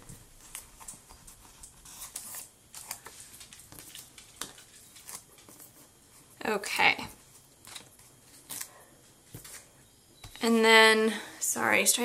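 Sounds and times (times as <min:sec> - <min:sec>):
faint paper rustles: 0:00.0 - 0:09.8.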